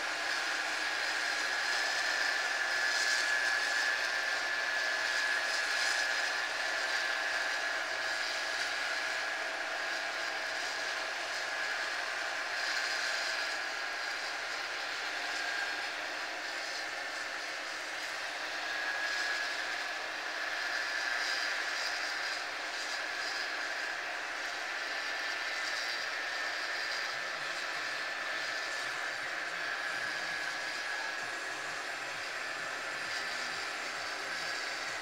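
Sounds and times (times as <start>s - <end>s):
high machine whine: 0.0s - 35.0s.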